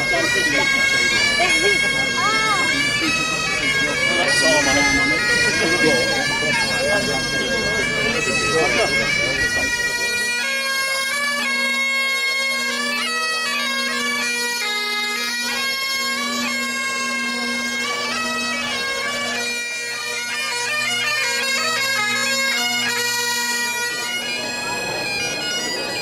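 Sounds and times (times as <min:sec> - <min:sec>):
bagpipes playing a tune: 0:00.0 - 0:26.0.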